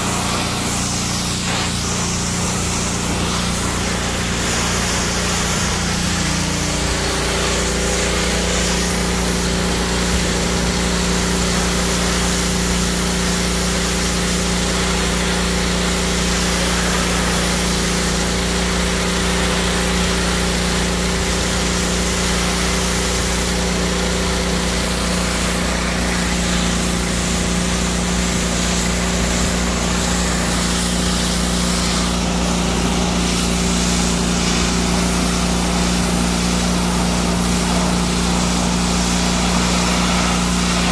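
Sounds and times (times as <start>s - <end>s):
high-pressure water jet hissing: 0.0s - 40.9s
pressure washer engine hum: 0.0s - 40.9s.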